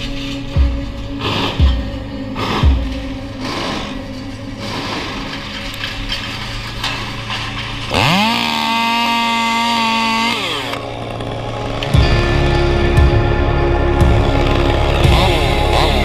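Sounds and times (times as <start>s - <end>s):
chainsaw revving: 1.2s - 6.0s, 6.7s - 16.0s.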